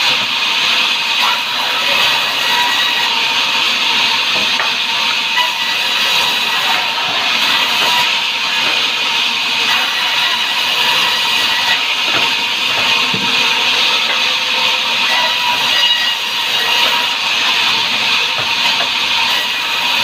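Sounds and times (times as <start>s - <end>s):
sawmill saw cutting timber: 0.0s - 20.0s.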